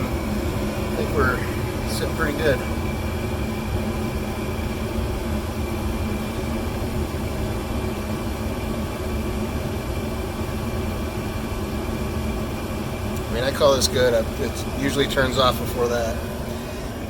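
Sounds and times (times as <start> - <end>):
gas furnace humming: 0.0 - 17.0.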